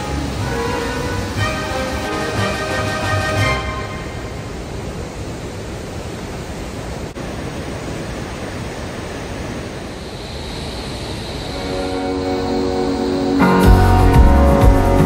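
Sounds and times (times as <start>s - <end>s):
river rushing over boulders: 0.0s - 15.0s.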